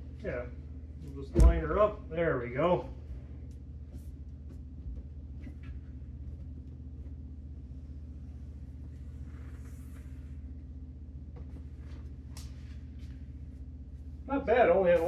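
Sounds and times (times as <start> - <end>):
pulsing low hum: 0.0 - 15.0.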